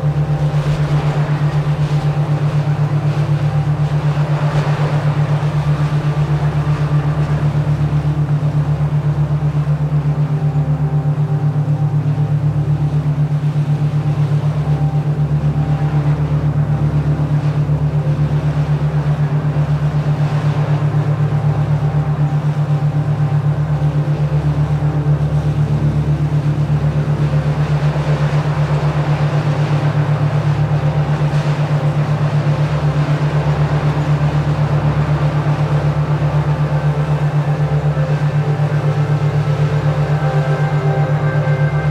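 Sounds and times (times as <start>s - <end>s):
pulsing synthesized drone: 0.0s - 41.9s.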